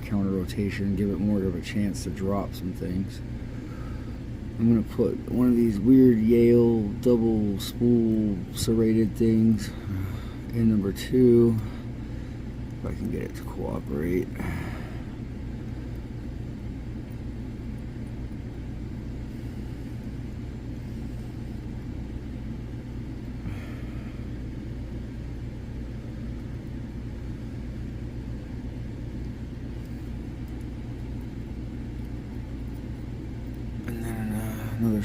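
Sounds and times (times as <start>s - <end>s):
low background hum and rumble: 0.0s - 35.0s.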